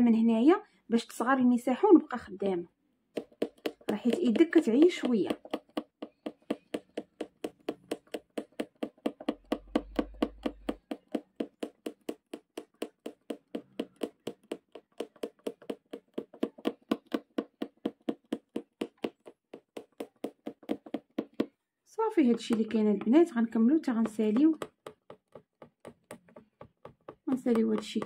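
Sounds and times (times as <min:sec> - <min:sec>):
punch needle tapping through fabric: 0:03.1 - 0:21.6, 0:22.2 - 0:28.0.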